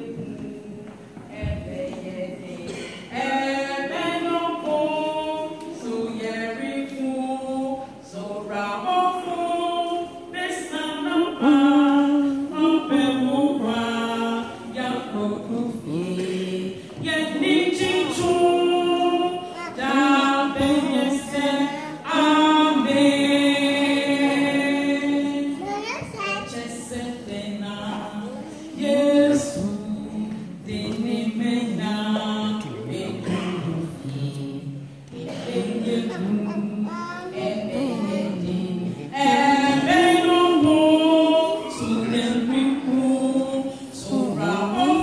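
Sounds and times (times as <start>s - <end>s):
choir singing a cappella: 0.0s - 45.0s.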